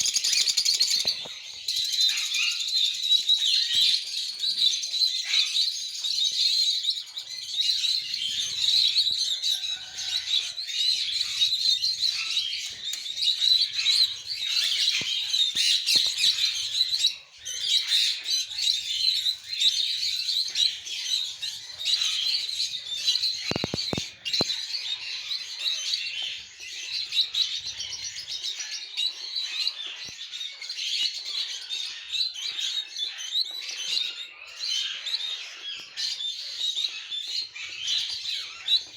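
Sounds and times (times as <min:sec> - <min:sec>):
parrots chirping and chattering: 0:00.0 - 0:38.9.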